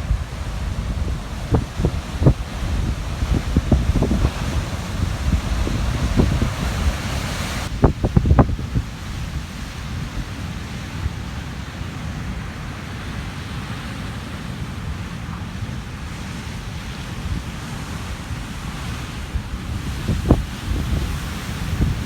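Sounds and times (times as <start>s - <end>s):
surf breaking on rocks: 0.0s - 22.0s
wind rumbling on microphone: 0.0s - 22.0s.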